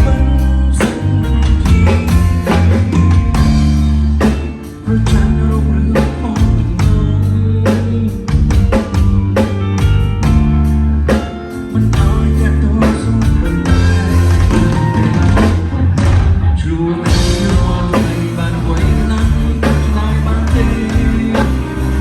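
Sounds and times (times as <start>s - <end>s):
drums striking: 0.0s - 22.0s
live band playing: 0.0s - 22.0s
steady bass line: 0.0s - 22.0s.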